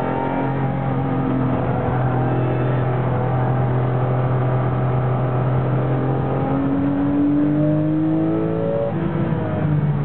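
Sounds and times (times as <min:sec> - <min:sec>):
race car engine from inside cabin: 0:00.0 - 0:10.0.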